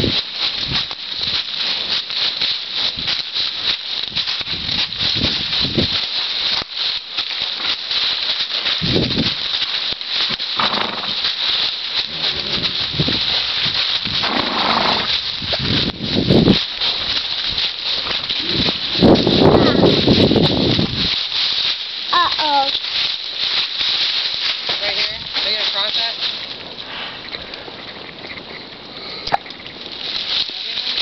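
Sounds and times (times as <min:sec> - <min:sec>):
footsteps in dry leaves: 0:00.0 - 0:31.0.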